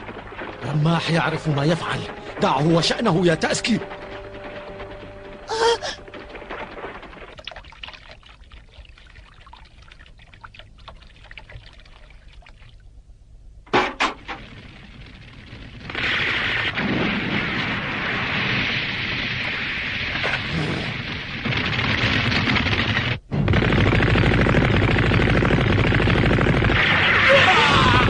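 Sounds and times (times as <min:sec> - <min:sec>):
crackling: 0:00.0 - 0:13.0, 0:13.6 - 0:28.0.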